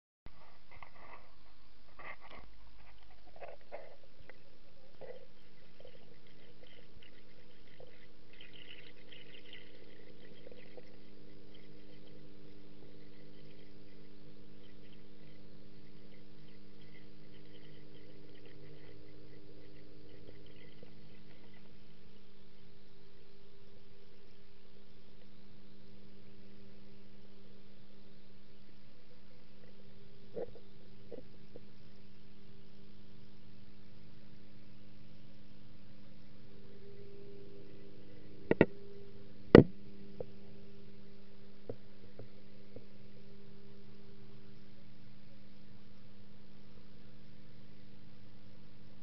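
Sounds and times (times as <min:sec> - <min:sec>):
crackles: 0:00.3 - 0:49.0
low mechanical hum: 0:00.3 - 0:49.0
aquarium water bubbling: 0:02.9 - 0:49.0.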